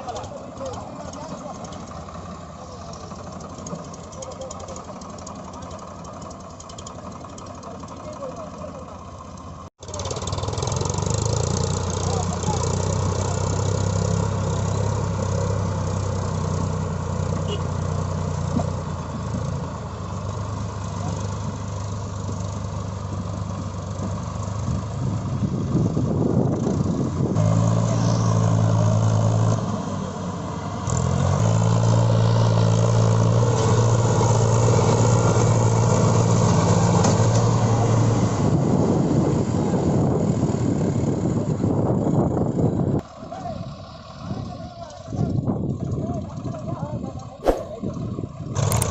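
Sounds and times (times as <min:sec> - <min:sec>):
diesel tractor engine under load: 0:00.0 - 0:48.9.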